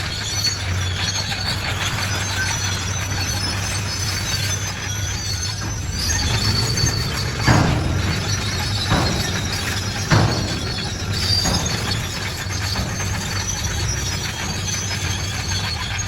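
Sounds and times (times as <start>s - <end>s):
bulldozer diesel engine: 0.0s - 16.0s
crawler tracks squealing: 0.0s - 16.0s
metal clank: 1.5s - 16.0s.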